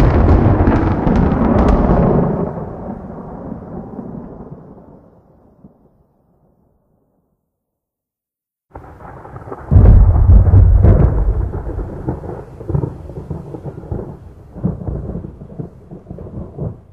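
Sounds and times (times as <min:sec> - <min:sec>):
crackling thunder crash: 0:00.0 - 0:06.0, 0:08.7 - 0:16.9
rolling thunder rumble: 0:00.0 - 0:06.0, 0:08.7 - 0:16.9.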